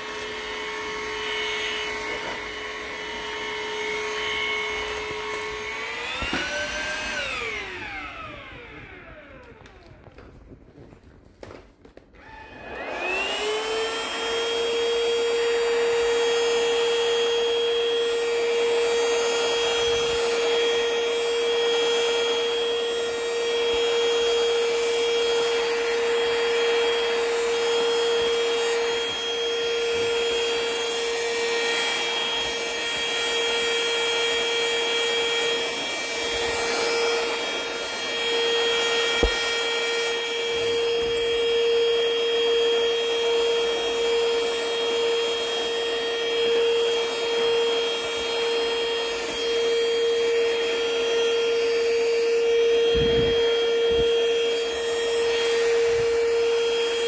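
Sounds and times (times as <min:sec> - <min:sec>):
stick vacuum running: 0:00.0 - 0:57.0.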